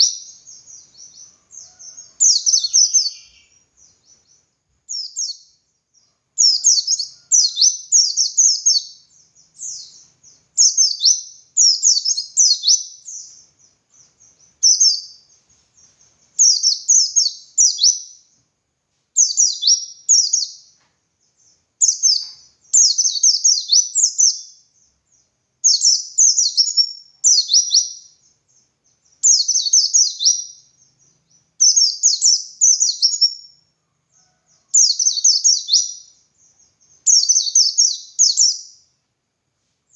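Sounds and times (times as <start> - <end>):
bird twittering song: 0.0 - 18.5, 19.2 - 39.0.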